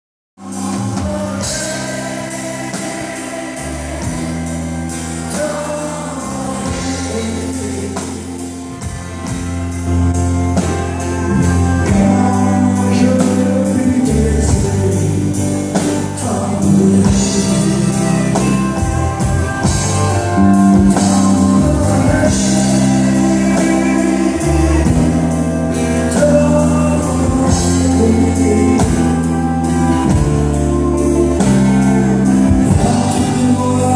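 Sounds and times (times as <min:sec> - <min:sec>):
man singing into a microphone: 0:00.4 - 0:09.5, 0:10.6 - 0:33.9
bass: 0:00.4 - 0:33.9
drums: 0:00.4 - 0:33.9.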